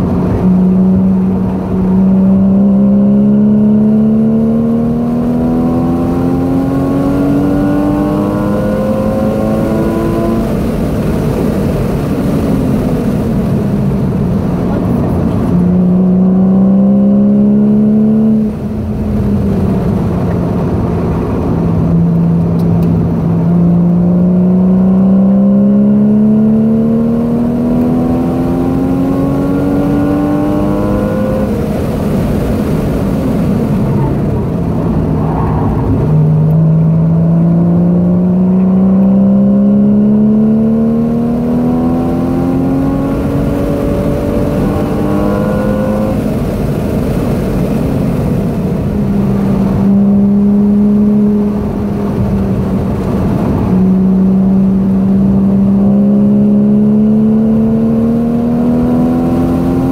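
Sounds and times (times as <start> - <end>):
car engine pulling hard: 0.0 - 59.9
road and wind noise: 0.0 - 59.9.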